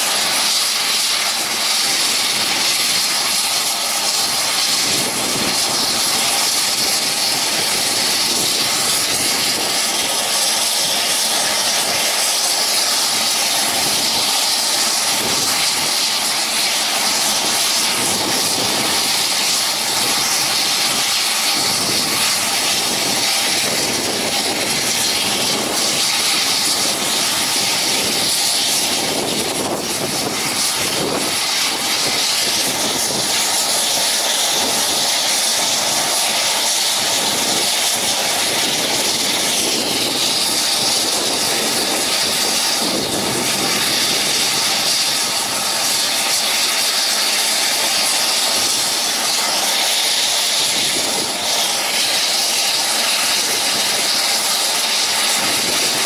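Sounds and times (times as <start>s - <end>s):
propeller noise: 0.0s - 56.0s
turbine whine: 0.0s - 56.0s.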